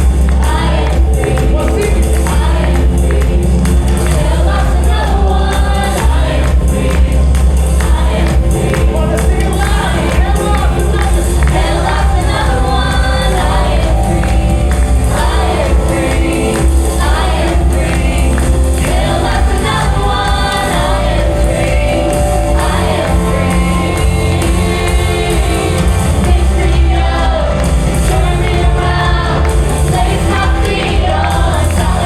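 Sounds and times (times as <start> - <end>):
choir backing voices: 0.0 - 32.0
gospel band playing: 0.0 - 32.0
person singing: 0.0 - 32.0.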